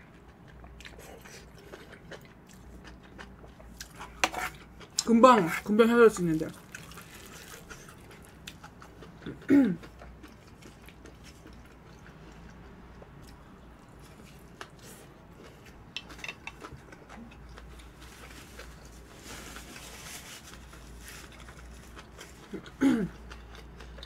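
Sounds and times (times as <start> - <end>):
close-miked chewing: 0.0 - 5.2, 6.2 - 24.0.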